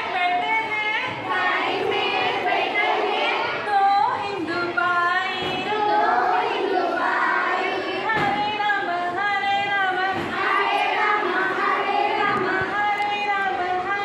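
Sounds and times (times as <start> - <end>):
children singing in chorus: 1.1 - 14.0.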